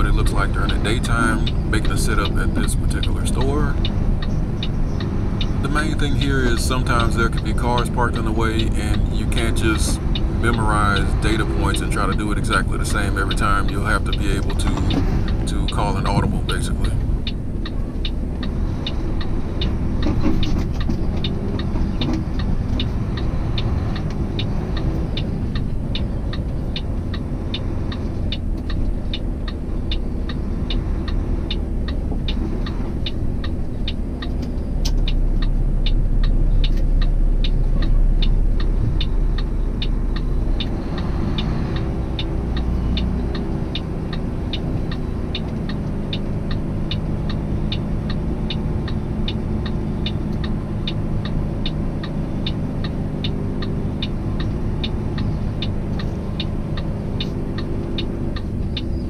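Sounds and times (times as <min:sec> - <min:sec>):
diesel truck engine running: 0:00.0 - 0:59.0
turn signal clicking: 0:00.0 - 0:59.0.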